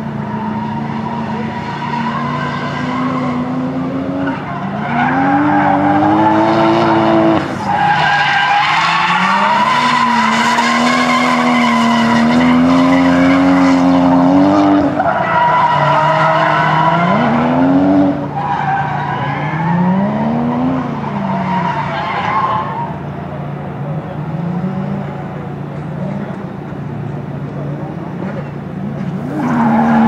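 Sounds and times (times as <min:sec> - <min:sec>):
car engine at high revs: 0:00.0 - 0:30.0
tyres skidding: 0:00.0 - 0:30.0.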